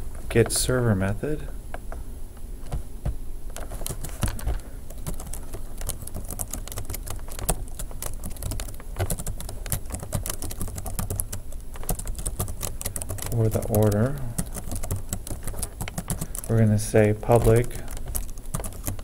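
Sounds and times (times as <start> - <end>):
typing on a computer keyboard: 3.6 - 19.0.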